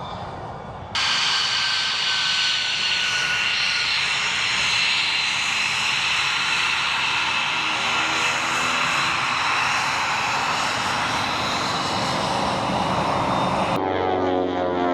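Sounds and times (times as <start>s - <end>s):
jet engine roaring and whining: 0.0s - 14.9s.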